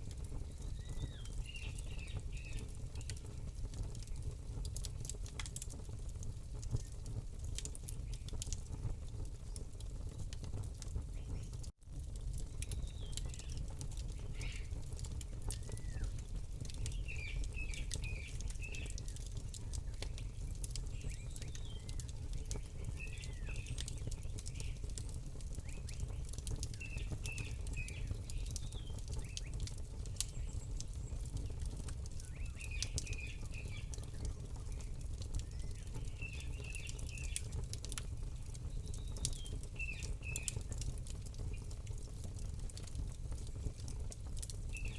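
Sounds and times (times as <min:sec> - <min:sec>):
campfire crackling and popping: 0:00.0 - 0:44.9
small birds chirping: 0:00.1 - 0:05.7, 0:11.0 - 0:11.7, 0:12.5 - 0:42.8, 0:43.4 - 0:44.9.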